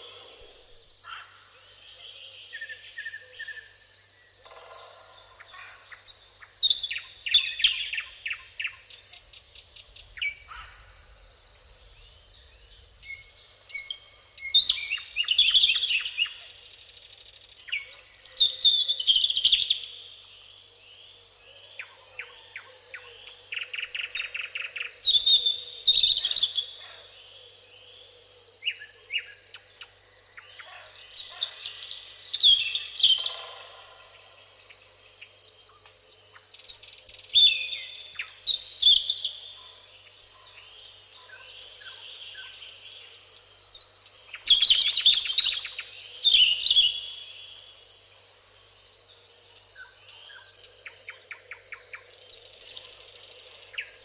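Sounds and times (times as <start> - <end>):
songbirds singing: 0.0 - 54.0
high-pitched insect trill: 5.6 - 54.0.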